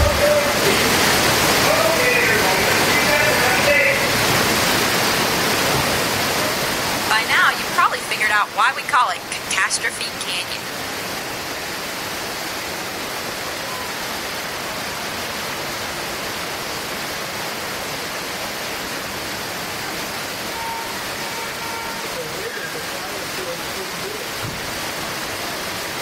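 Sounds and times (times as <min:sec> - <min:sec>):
flood water rushing: 0:00.0 - 0:26.0.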